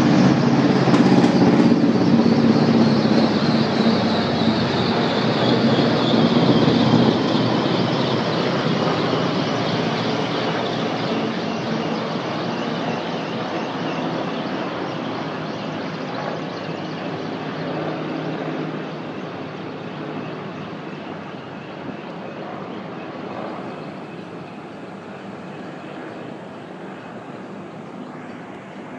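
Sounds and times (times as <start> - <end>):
helicopters flying overhead: 0.0 - 28.9.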